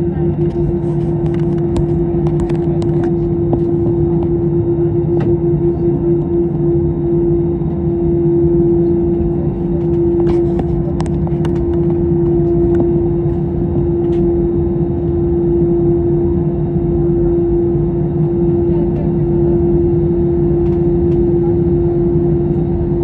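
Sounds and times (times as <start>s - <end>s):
jet engine cabin drone: 0.0s - 23.0s.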